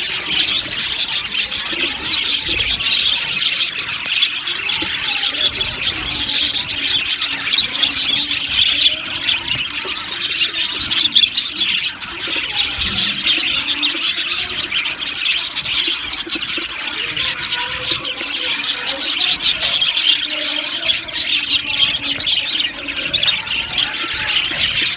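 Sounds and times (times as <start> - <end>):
budgerigars chirping: 0.0 - 24.9.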